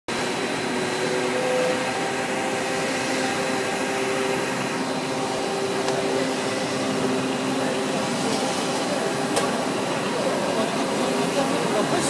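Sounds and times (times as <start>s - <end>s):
machine noise with humming tones: 0.1s - 12.0s.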